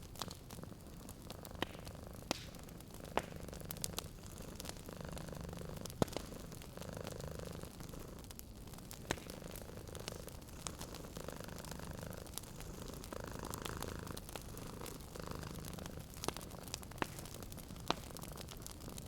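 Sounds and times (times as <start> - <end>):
wood fire crackling and popping: 0.0 - 19.0
cat purring: 0.1 - 19.0.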